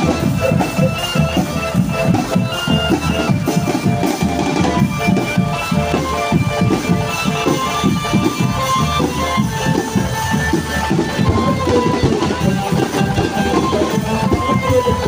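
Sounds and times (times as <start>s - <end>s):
melody of long held notes: 0.0s - 15.0s.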